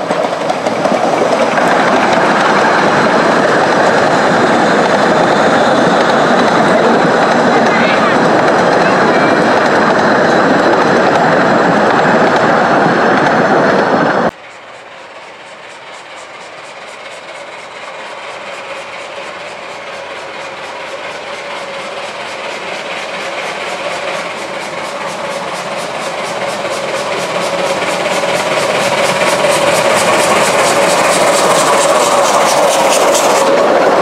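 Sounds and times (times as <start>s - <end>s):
steam locomotive exhaust beats: 0.0s - 34.0s
train wheels clattering on rails: 0.0s - 34.0s.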